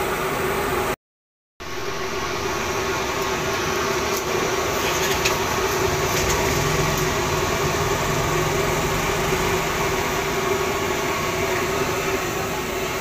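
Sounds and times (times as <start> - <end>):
mechanical low hum: 1.6 - 13.0.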